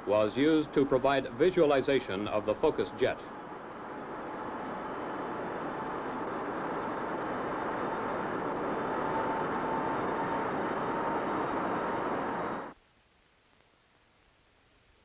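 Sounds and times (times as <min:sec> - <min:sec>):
rushing jet engine noise: 0:00.0 - 0:12.8
steady turbine whine: 0:00.0 - 0:12.8.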